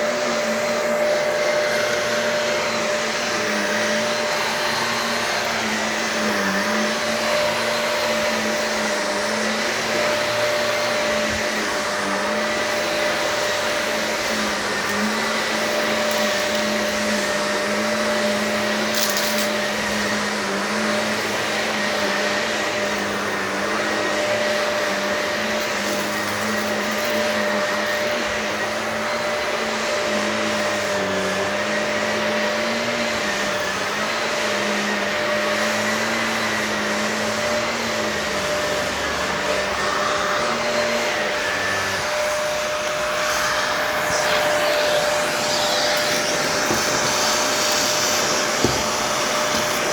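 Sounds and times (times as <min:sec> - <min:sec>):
vacuum cleaner on carpet: 0:00.0 - 0:49.9.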